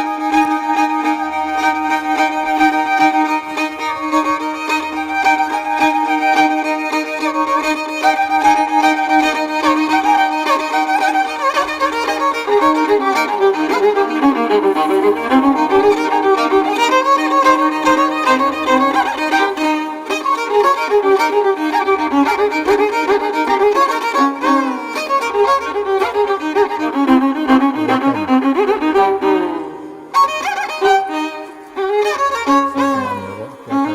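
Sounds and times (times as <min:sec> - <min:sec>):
fiddle melody over a drone: 0:00.0 - 0:33.9.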